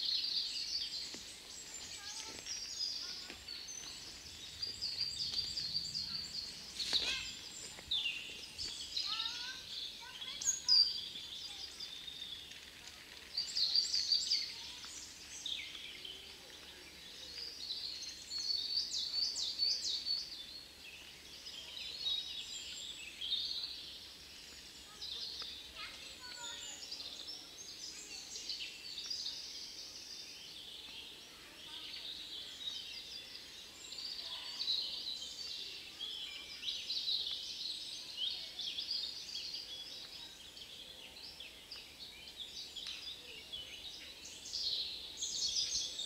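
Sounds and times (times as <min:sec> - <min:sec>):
songbirds chirping and trilling: 0:00.0 - 0:46.0.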